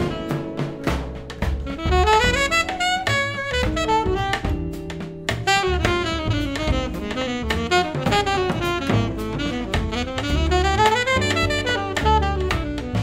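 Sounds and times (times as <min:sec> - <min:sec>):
bass: 0:00.0 - 0:13.0
drums: 0:00.0 - 0:13.0
saxophone melody: 0:00.0 - 0:13.0.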